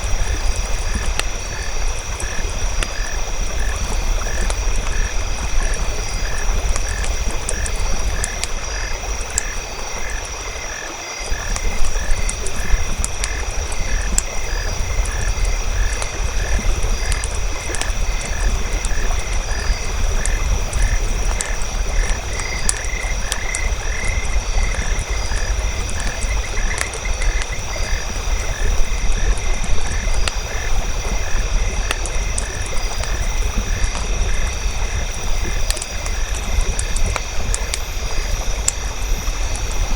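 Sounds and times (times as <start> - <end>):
campfire crackling: 0.0 - 39.9
frogs croaking: 0.0 - 39.9.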